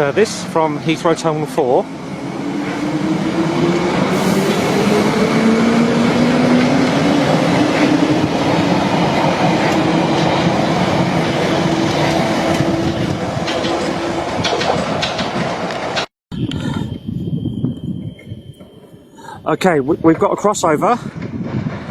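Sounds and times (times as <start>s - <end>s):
train wheels on rails: 0.0s - 16.9s, 20.0s - 21.9s
train traction motors whining: 0.0s - 21.4s.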